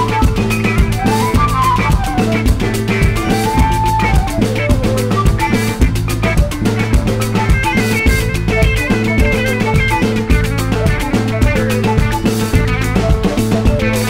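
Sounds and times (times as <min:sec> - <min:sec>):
bass line: 0:00.0 - 0:14.0
drums steady beat: 0:00.0 - 0:14.0
stepping melody: 0:00.0 - 0:14.0.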